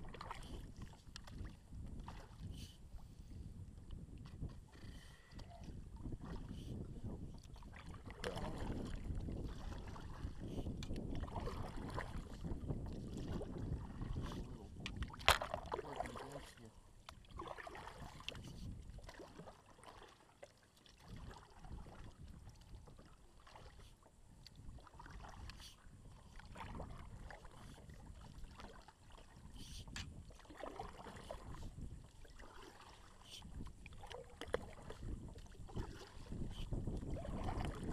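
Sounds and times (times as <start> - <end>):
paddles splashing in water: 0.0 - 2.8, 4.1 - 37.9.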